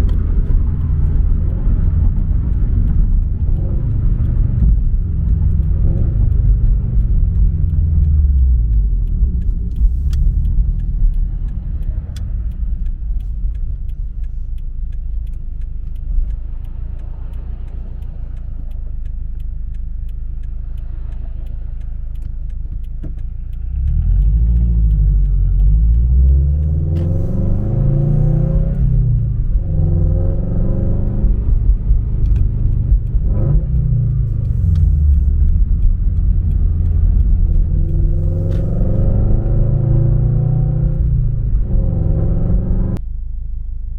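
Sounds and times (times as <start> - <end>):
car engine rumble: 0.0 - 43.9.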